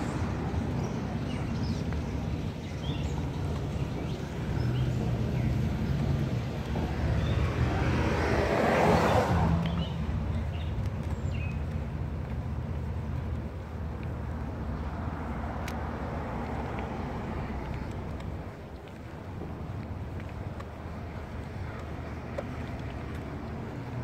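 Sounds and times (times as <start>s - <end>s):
car passing: 0.0s - 24.0s
low street rumble: 0.0s - 24.0s.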